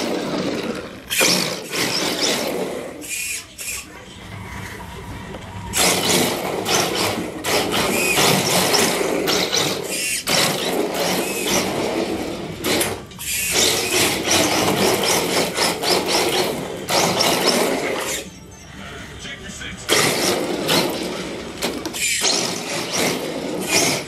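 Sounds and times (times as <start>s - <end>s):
toy car motor whining: 0.0s - 3.9s, 5.7s - 18.3s, 19.9s - 24.0s.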